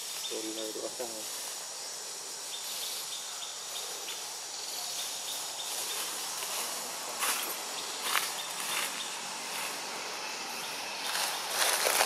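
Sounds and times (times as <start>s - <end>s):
faint short insect chirps: 0.0s - 12.0s
insect chorus buzzing: 0.0s - 12.0s.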